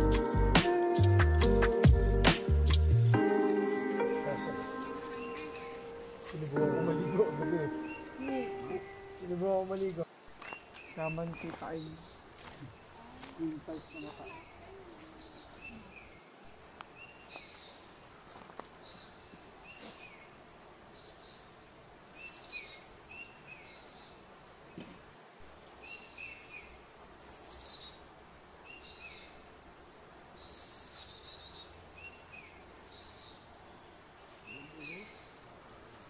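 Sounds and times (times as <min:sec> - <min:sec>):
birds chirping: 0:00.0 - 0:36.0
faint steady hiss: 0:00.0 - 0:36.0.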